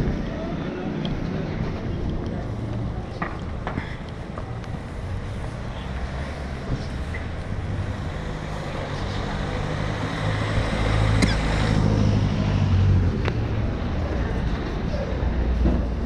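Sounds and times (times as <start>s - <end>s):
street noise: 0.0s - 16.0s
vehicle engine humming: 0.0s - 16.0s.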